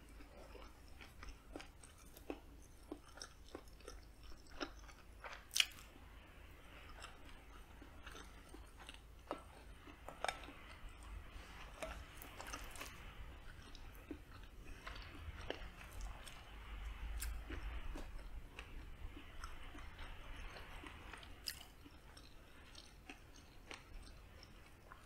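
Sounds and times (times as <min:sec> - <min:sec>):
close-up chewing: 0:00.0 - 0:25.0.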